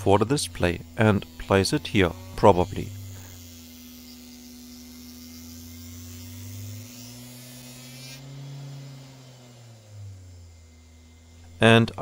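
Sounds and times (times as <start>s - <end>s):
spindle motor humming: 0.0s - 12.0s.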